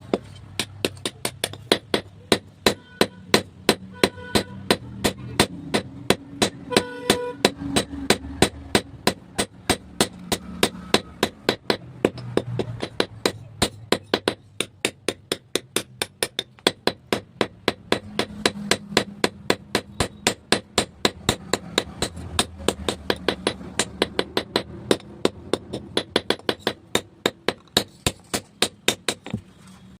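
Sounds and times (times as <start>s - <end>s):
hammer striking steel: 0.0s - 29.5s.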